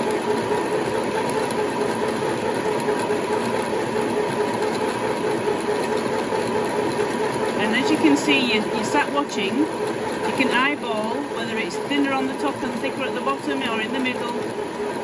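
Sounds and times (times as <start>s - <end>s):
sewing machine motor humming: 0.0s - 15.0s.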